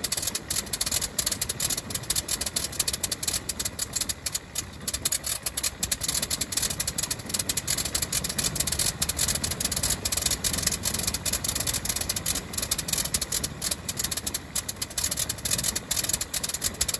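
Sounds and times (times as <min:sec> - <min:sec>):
rotary aircraft engine running: 0:00.0 - 0:16.9.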